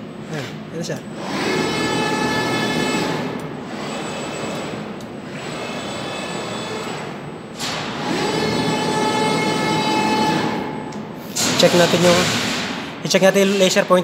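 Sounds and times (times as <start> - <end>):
drive motors whining: 0.8 - 12.6.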